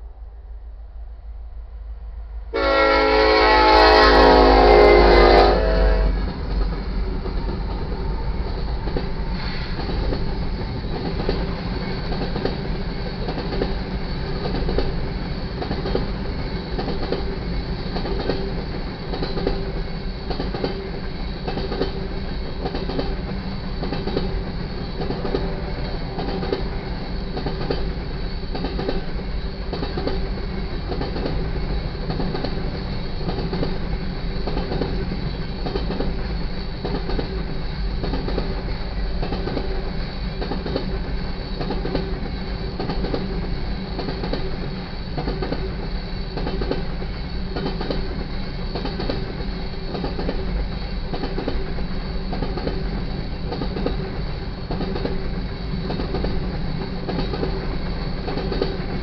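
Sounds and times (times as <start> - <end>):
freight train rumbling past: 0.0 - 59.0
wheels clattering on rails: 6.2 - 59.0.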